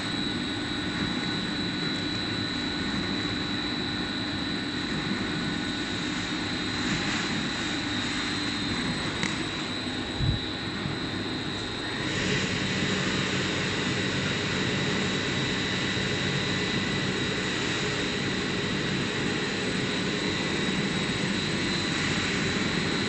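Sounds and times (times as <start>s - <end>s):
high whine: 0.0s - 23.0s.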